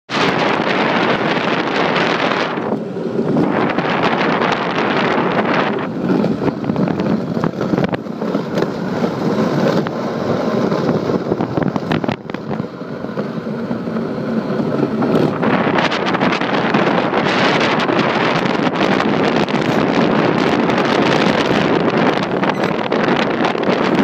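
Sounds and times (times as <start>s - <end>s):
wind buffeting microphone: 0.1s - 24.0s.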